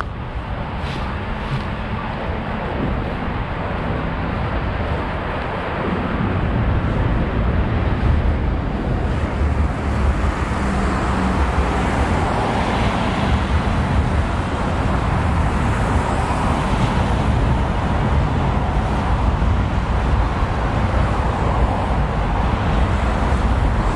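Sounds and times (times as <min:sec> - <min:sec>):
cars driving past: 0:00.0 - 0:23.9.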